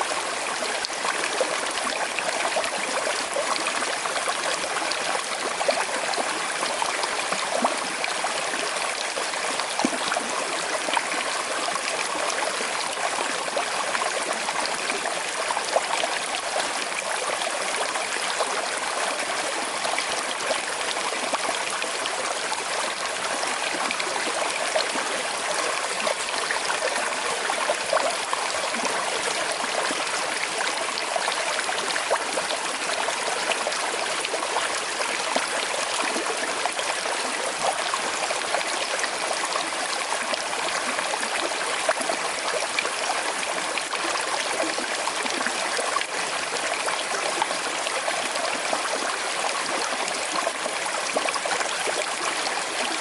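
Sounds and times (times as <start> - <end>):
river flowing over stones: 0.0 - 53.0.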